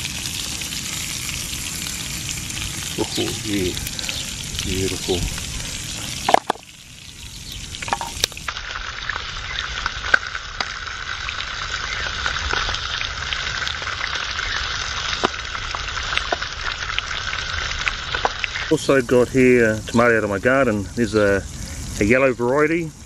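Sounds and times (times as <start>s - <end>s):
fish sizzling in a pan: 0.0s - 23.0s.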